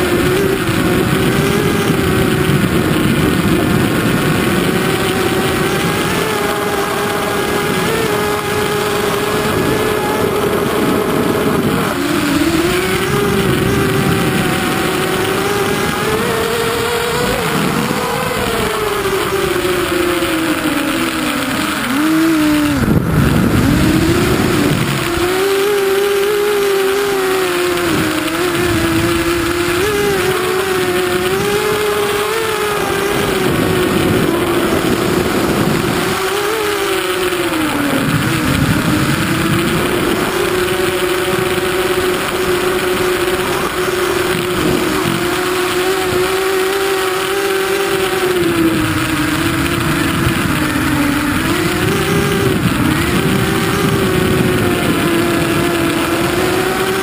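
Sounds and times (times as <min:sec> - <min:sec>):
drone propellers buzzing: 0:00.0 - 0:57.0.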